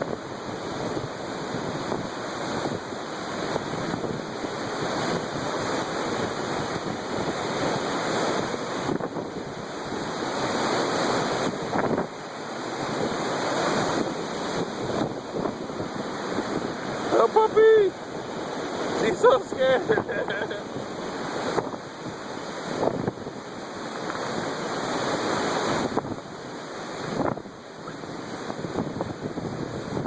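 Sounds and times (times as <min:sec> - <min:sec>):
strong gusting wind: 0:00.0 - 0:30.0.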